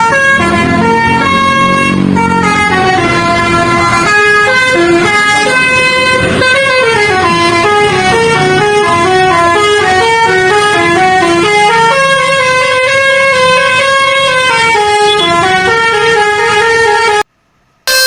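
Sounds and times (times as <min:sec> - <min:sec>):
bus musical horn playing a tune: 0:00.0 - 0:17.3.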